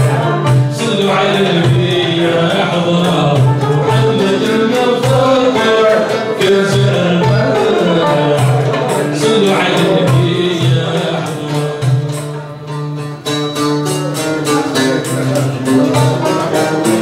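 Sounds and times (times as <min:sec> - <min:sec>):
banjos and plucked lutes: 0:00.0 - 0:17.0
frame drum and darbuka: 0:00.0 - 0:17.0.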